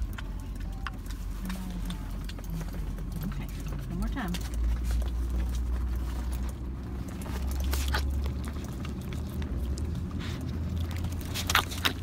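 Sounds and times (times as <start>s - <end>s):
low rumble of a car: 0.0s - 12.0s.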